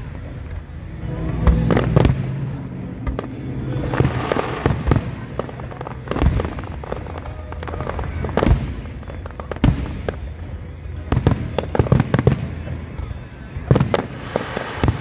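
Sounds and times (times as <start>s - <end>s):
fireworks booming and popping: 0.0s - 15.0s.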